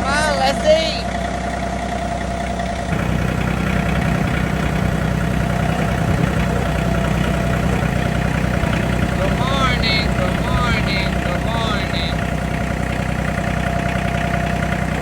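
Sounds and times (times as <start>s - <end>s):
engine-like hum: 0.0s - 15.0s.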